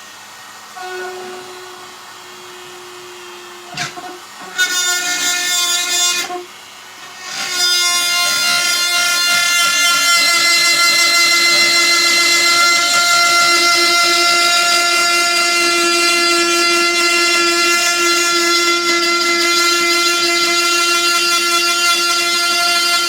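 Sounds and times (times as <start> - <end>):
power tool motor whining: 0.6 - 23.0.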